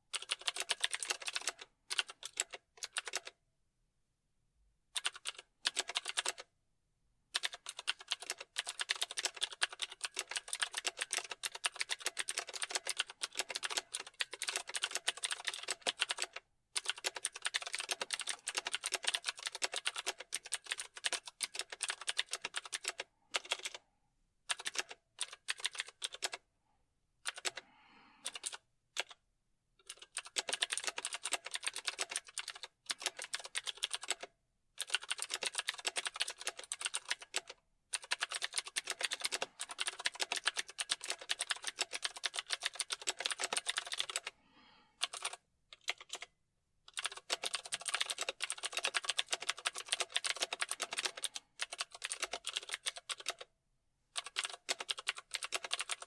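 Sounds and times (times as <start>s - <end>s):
typing on computer keyboard: 0.1s - 3.4s, 5.0s - 6.5s, 7.3s - 23.8s, 24.5s - 26.4s, 27.2s - 27.6s, 28.2s - 29.2s, 29.8s - 44.3s, 45.0s - 46.3s, 46.9s - 53.5s, 54.1s - 56.0s.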